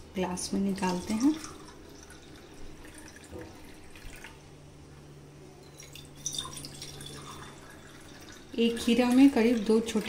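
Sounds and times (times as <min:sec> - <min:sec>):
juice trickling into a glass: 0:00.8 - 0:04.5, 0:05.6 - 0:10.0.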